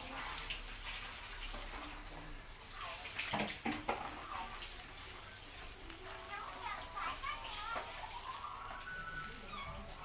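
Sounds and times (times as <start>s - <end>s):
meat sizzling over charcoal: 0.0s - 10.0s.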